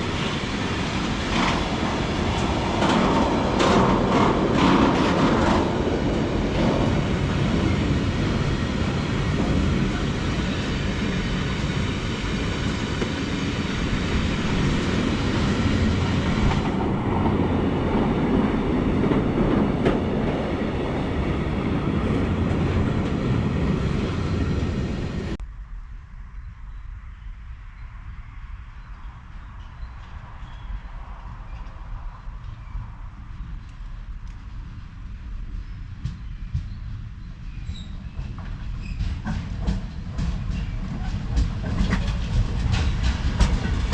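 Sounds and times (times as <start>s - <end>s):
freight train wheels clicking: 0.0s - 25.3s, 31.1s - 43.9s.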